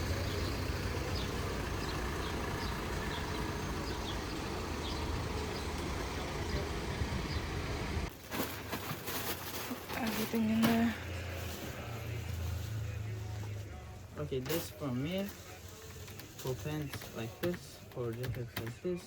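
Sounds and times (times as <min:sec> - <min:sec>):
low rumble of traffic: 0:00.0 - 0:19.0.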